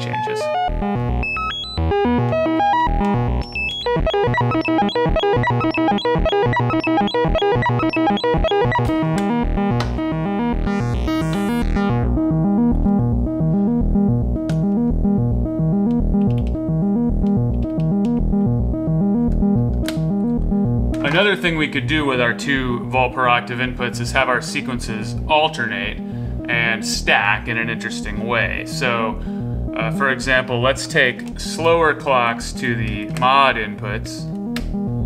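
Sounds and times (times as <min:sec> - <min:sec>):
synthesizer sequenced notes: 0:00.0 - 0:35.0.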